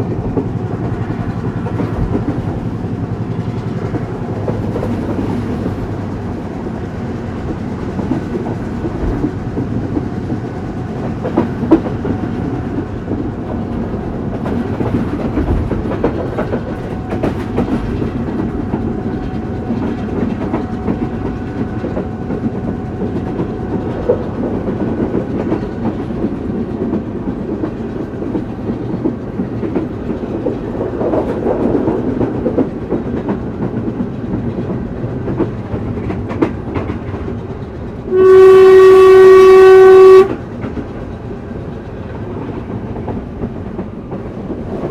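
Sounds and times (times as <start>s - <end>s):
clickety-clack of rail joints: 0.0s - 44.9s
train wheels rumbling: 0.0s - 44.9s.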